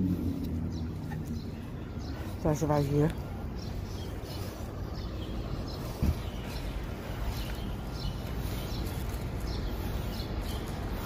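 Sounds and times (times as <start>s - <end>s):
low rumble of traffic: 0.0s - 11.0s
small birds chirping: 0.0s - 11.0s.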